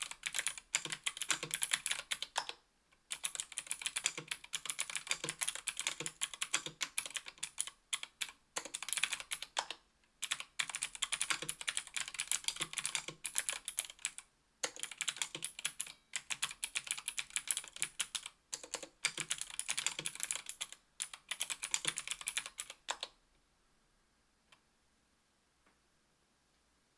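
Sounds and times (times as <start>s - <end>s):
typing on mechanical keyboard: 0.0s - 23.1s.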